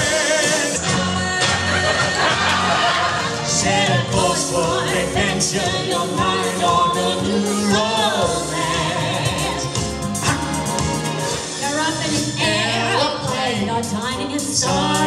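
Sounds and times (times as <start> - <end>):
man and woman singing: 0.0 - 10.7, 11.6 - 15.0
instrumental accompaniment: 0.0 - 15.0.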